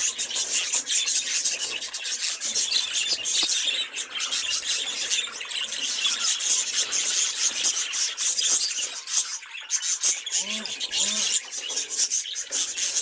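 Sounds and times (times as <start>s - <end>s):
budgerigars warbling and chattering: 0.0s - 13.0s.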